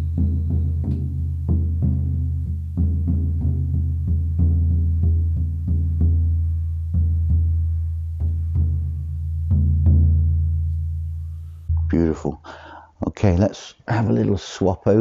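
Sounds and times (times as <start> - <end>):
frame drum deep beats: 0.0 - 12.3.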